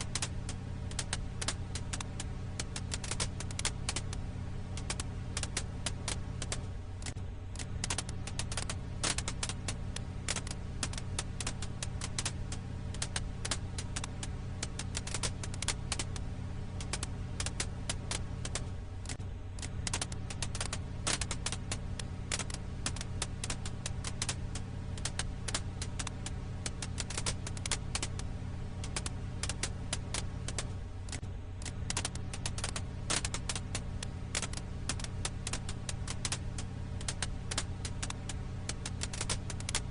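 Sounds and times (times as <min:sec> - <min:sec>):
low hum: 0:00.0 - 0:39.9
wood fire crackling: 0:00.0 - 0:39.9.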